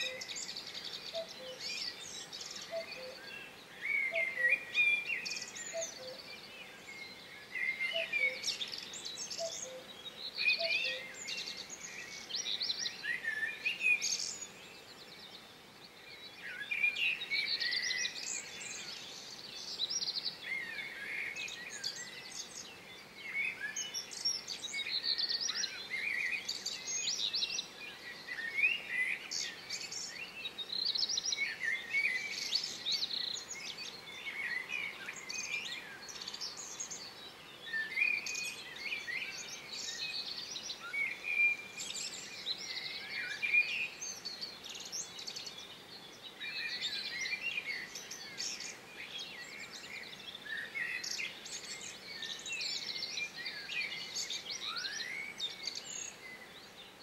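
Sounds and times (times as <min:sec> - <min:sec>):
faint steady background noise: 0:00.0 - 0:57.0
songbirds chirping and singing: 0:00.0 - 0:57.0.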